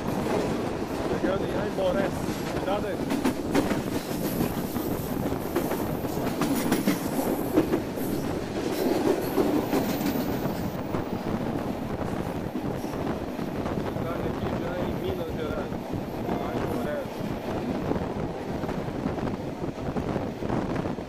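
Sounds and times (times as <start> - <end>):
train wheel clacks: 0.0 - 17.6
train wheels rumbling on rails: 0.0 - 21.0.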